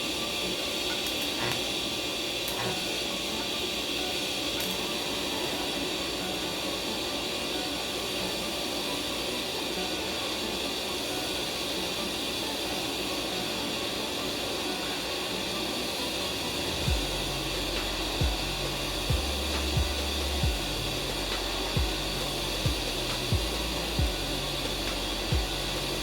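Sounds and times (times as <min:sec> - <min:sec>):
steady hissing: 0:00.0 - 0:26.0.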